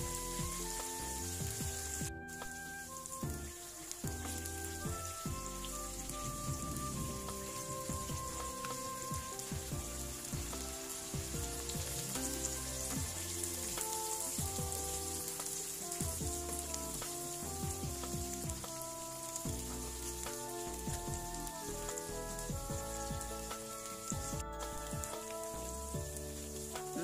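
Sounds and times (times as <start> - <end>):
background music: 0.0 - 27.0
food deep-frying in oil: 0.0 - 27.0.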